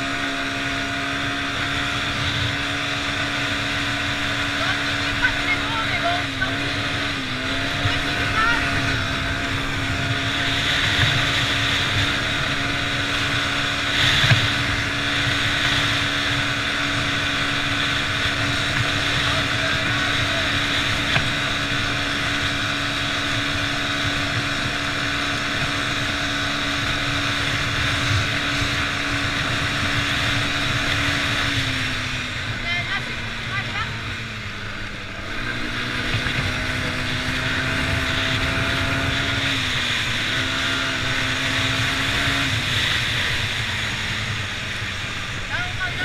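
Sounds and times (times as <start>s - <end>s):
quad bike engine running: 0.0s - 46.0s.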